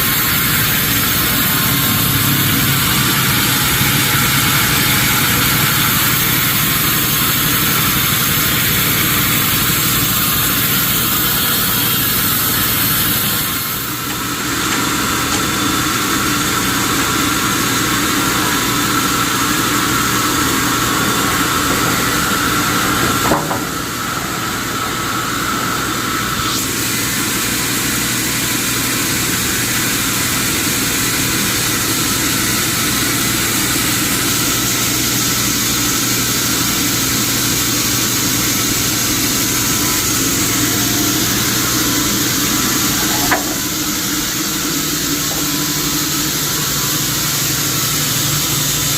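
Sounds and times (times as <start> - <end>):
machinery hiss: 0.0 - 16.5, 20.0 - 48.9
sawmill machinery hum: 0.0 - 48.9.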